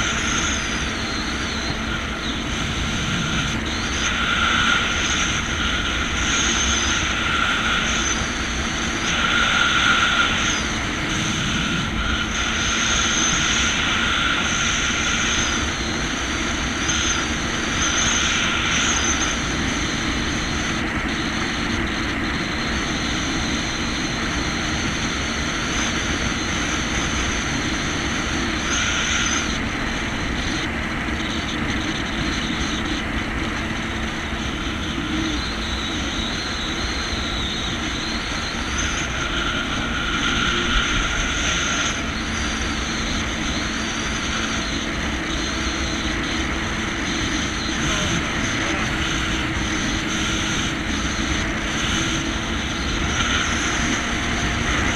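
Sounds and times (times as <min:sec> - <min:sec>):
jet ski engine drone: 0:00.0 - 0:54.9
rushing wind: 0:00.0 - 0:54.9.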